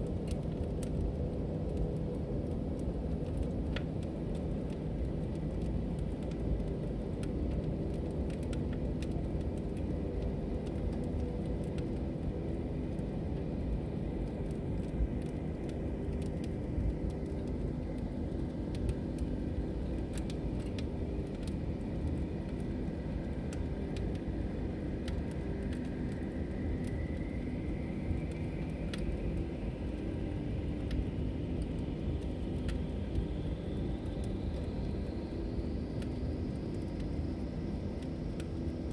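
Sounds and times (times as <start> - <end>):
log fire crackling: 0.0 - 38.9.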